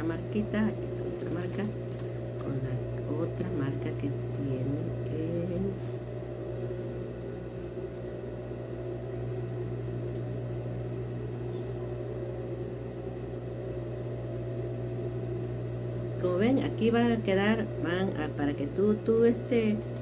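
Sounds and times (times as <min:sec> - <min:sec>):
electric motor hum: 0:00.0 - 0:20.0.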